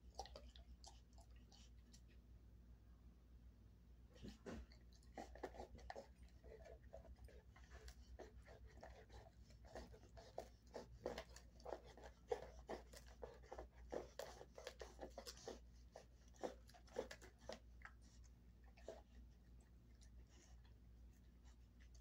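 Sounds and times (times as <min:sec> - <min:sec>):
dog teeth crunching on chew: 0:00.0 - 0:02.2, 0:04.5 - 0:20.8.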